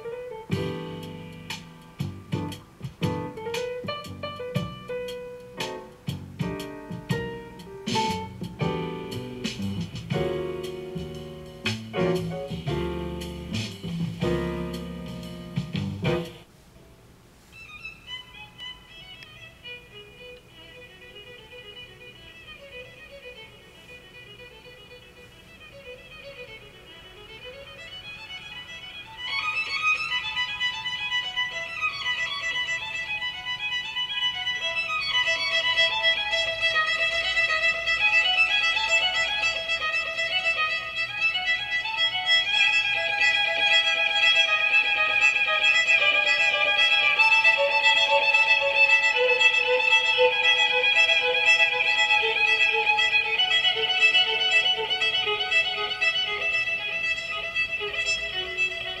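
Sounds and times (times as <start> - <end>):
violin melody: 0.0 - 16.5, 17.4 - 59.0.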